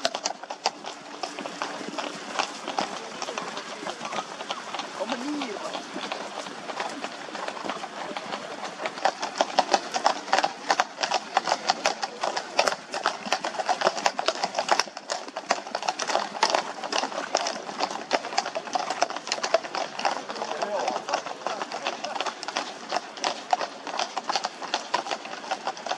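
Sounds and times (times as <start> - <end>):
horse hooves clip-clopping: 0.0 - 25.9.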